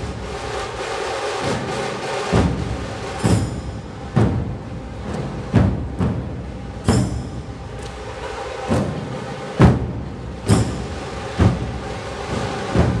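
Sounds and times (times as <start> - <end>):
dhol drums beating a slow rhythm: 0.0 - 13.0.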